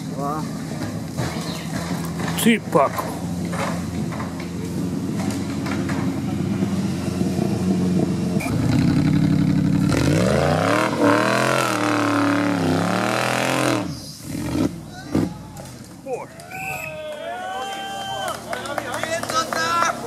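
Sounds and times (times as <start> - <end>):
off-road buggy engine revving: 0.0 - 16.8, 18.2 - 20.0.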